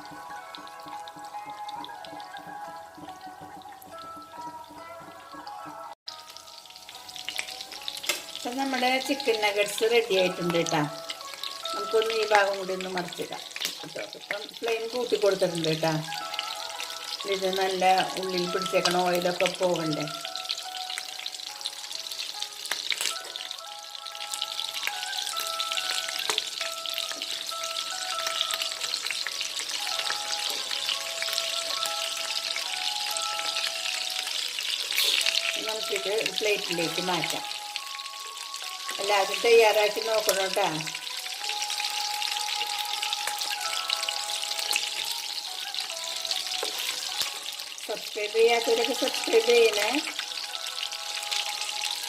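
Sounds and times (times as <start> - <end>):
food sizzling in hot oil: 0.0 - 52.0
soft background melody: 0.0 - 52.0
soft background music: 0.0 - 52.0.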